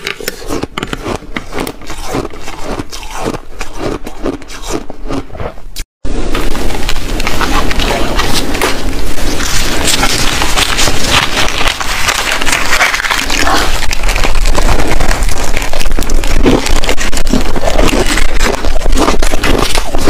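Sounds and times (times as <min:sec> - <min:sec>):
ice being chewed and crunched: 0:00.0 - 0:05.6, 0:07.2 - 0:20.0.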